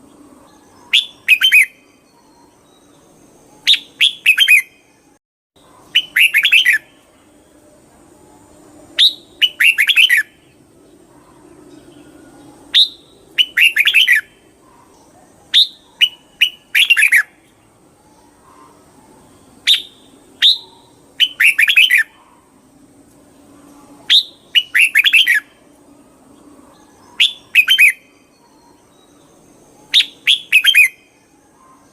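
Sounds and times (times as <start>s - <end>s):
bulbul singing: 0.0s - 5.0s, 5.6s - 7.6s, 8.2s - 22.6s, 23.4s - 31.9s.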